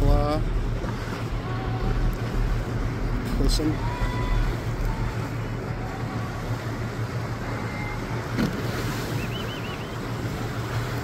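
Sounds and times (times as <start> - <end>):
boat engine hum: 0.0 - 11.0
sea water rushing: 0.0 - 11.0.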